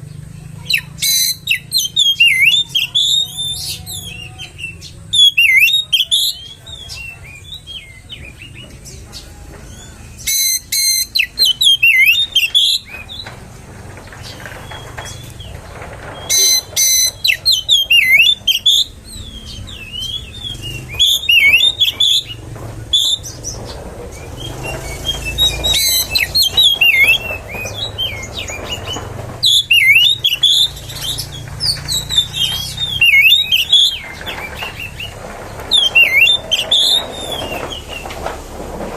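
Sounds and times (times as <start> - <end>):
bird singing varied song: 0.0 - 38.4.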